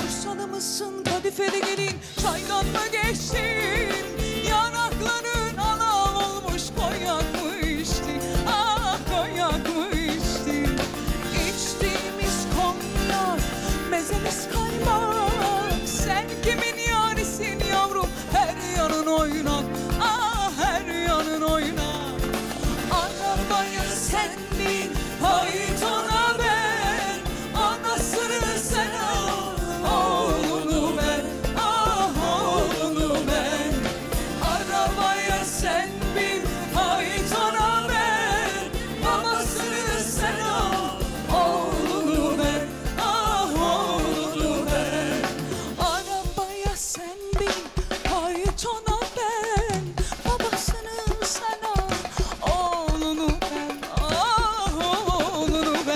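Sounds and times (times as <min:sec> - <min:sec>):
pop band with steady beat: 0:00.0 - 0:55.9
woman singing: 0:00.0 - 0:55.9.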